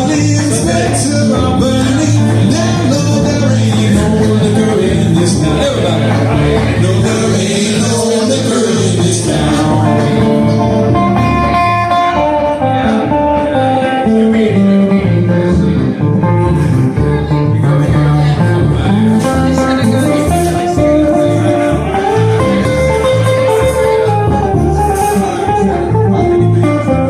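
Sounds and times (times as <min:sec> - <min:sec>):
acoustic guitars strumming: 0:00.0 - 0:27.0
walking bass line: 0:00.0 - 0:27.0.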